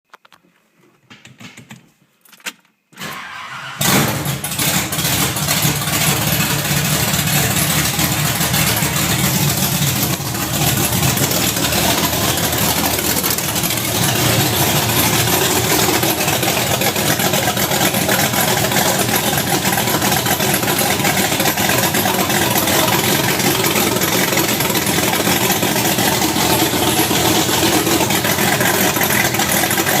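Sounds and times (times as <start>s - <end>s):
engine cranking: 3.0s - 30.0s
engine running loudly: 5.1s - 30.0s.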